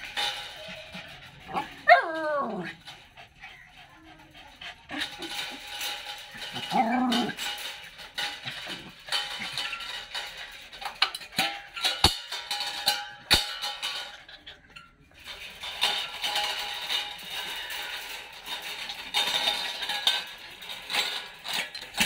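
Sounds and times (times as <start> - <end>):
metal crate clinking and rattling: 0.0 - 22.0.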